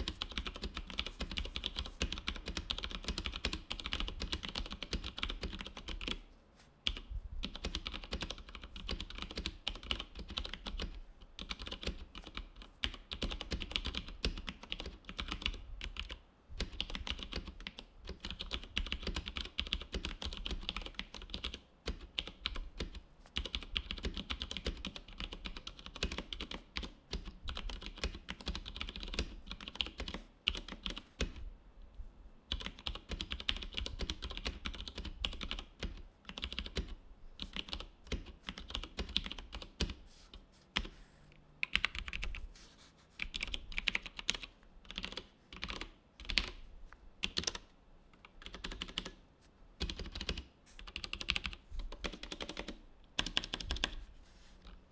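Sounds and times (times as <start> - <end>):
mechanical keyboard typing: 0.0 - 6.2, 6.8 - 31.4, 32.5 - 40.0, 41.6 - 42.4, 43.2 - 46.6, 47.2 - 49.2, 49.8 - 54.0.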